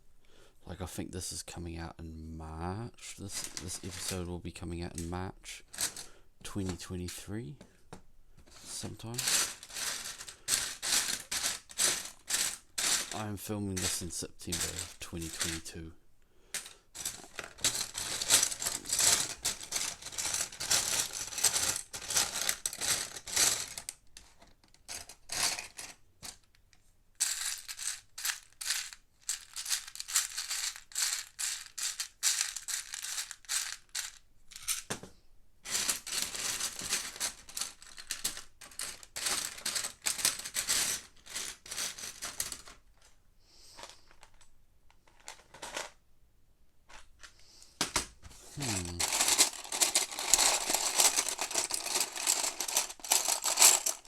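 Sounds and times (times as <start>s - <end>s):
plastic pieces rattling and clicking: 3.2s - 4.2s, 5.7s - 6.8s, 8.5s - 15.8s, 16.5s - 35.0s, 35.6s - 43.2s, 43.8s - 46.0s, 46.9s - 54.0s.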